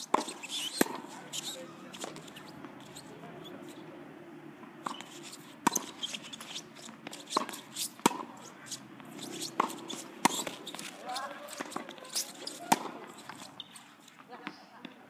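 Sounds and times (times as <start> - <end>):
rackets striking tennis ball: 0.0 - 3.8, 4.7 - 14.6
tennis ball bouncing: 0.0 - 3.8, 4.6 - 15.0.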